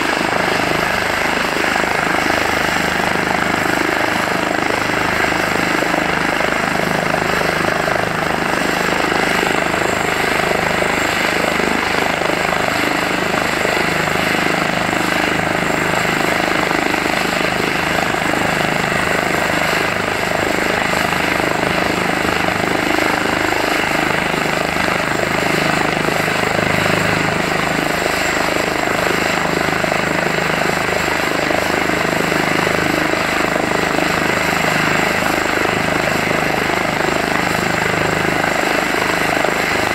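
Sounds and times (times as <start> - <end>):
helicopter engine and rotors: 0.0 - 39.9
steady turbine whine: 0.0 - 39.9.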